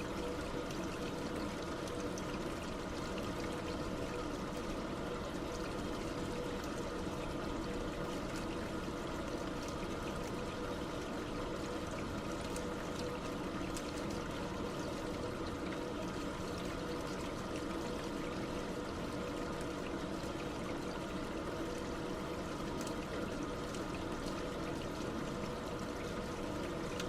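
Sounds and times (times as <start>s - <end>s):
faint steady hum: 0.0s - 27.0s
running water pouring: 0.0s - 27.0s.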